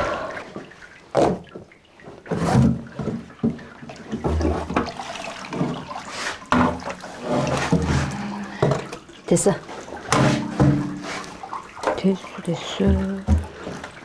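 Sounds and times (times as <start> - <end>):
water splashing and pouring: 0.0 - 14.0.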